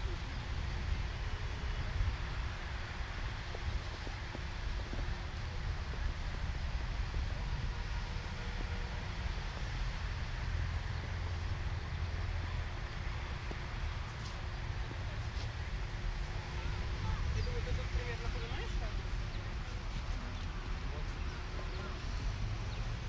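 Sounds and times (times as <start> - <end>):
traffic rumble: 0.0 - 23.0
wind: 0.0 - 23.0.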